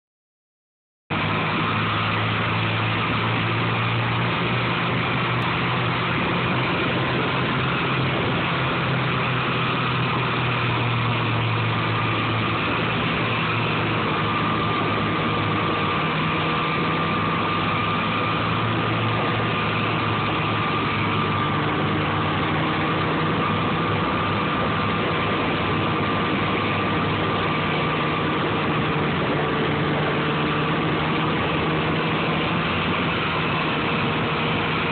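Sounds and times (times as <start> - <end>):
snowmobile engine running: 1.1 - 34.9.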